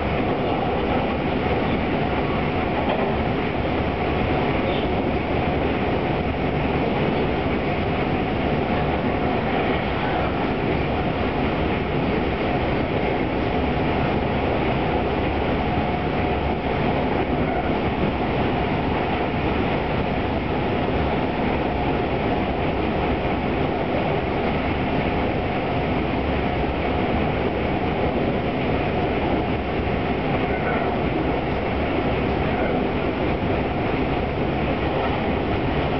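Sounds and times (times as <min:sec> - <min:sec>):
train traction motor hum: 0:00.0 - 0:35.9
train wheel and rail noise: 0:00.0 - 0:35.9.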